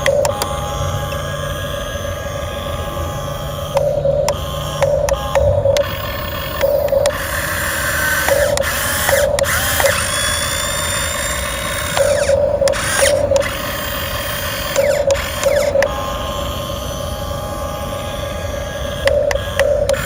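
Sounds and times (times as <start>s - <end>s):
model excavator motors whirring: 0.0s - 20.0s.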